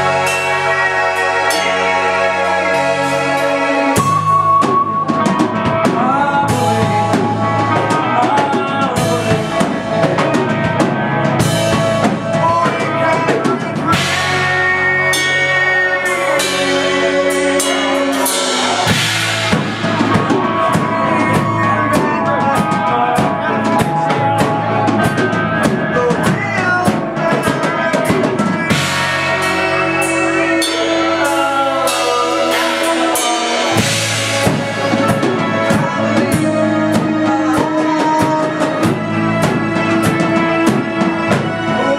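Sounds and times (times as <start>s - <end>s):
drum kit beat: 0.0s - 41.9s
live rock band playing: 0.0s - 41.9s.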